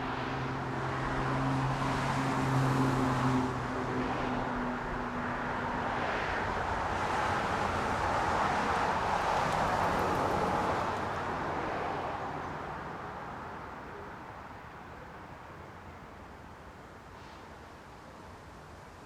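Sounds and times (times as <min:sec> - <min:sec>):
passing cars: 0:00.0 - 0:15.5.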